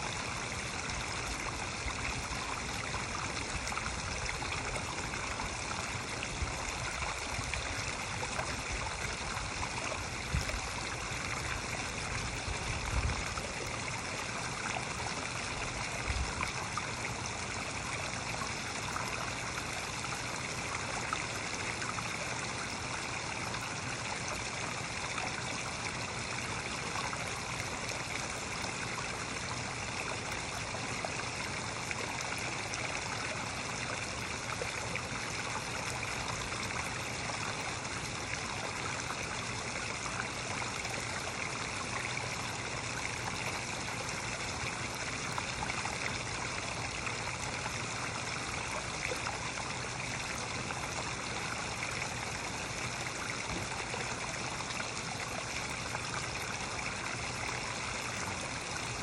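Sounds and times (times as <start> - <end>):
waterfall splashing into pond: 0.0 - 59.0.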